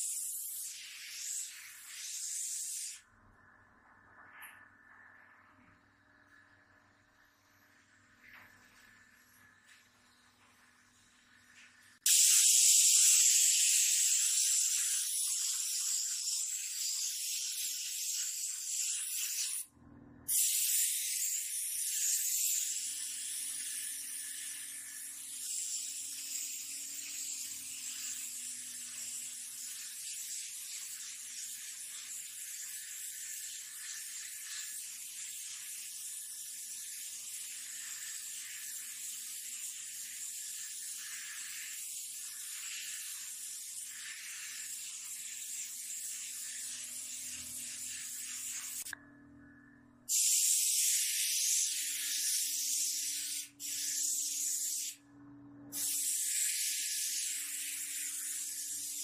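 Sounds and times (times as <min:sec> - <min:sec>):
paint spray gun hissing: 0:00.0 - 0:03.0, 0:11.5 - 0:19.7, 0:20.3 - 0:49.0, 0:50.1 - 0:55.0, 0:55.7 - 0:59.0.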